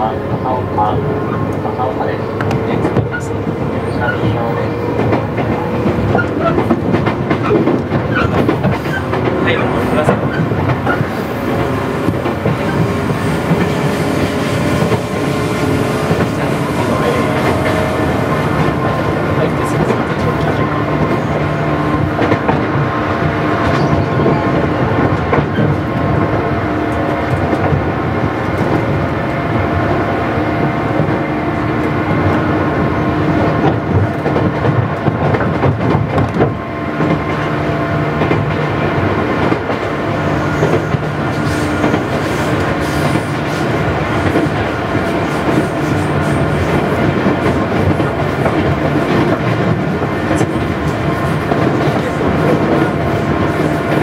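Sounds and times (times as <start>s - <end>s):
electric train rumble: 0.0s - 54.0s.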